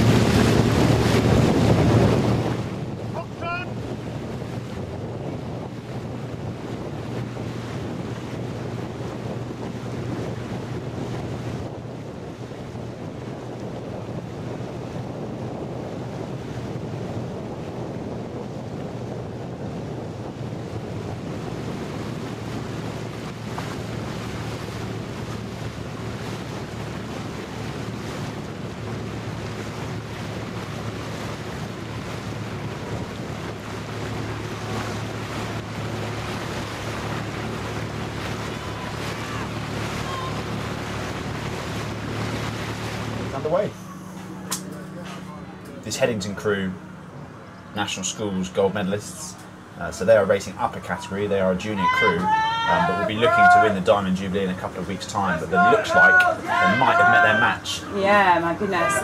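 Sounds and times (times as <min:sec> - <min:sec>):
boat engine hum: 0:00.0 - 0:59.0
water rushing past: 0:00.0 - 0:59.0
wind buffeting microphone: 0:00.0 - 0:59.0.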